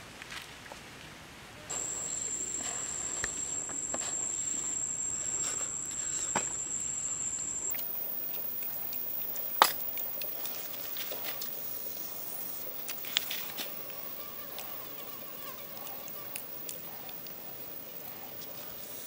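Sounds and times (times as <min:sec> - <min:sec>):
cricket trilling: 0:01.7 - 0:19.0.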